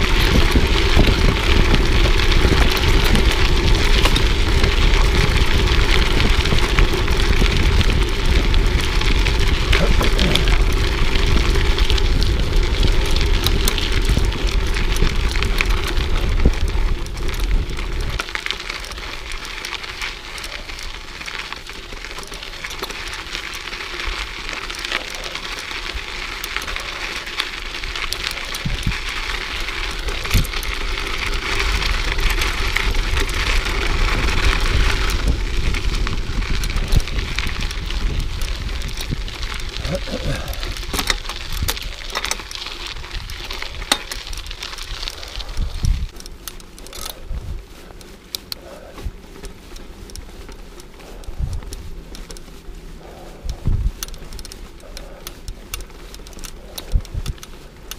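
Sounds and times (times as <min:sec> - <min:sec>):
bike clicks and rattles: 0:00.0 - 0:57.9
bike tyres crackling over dirt: 0:00.0 - 0:57.9
wind rumble on microphone: 0:00.0 - 0:57.9.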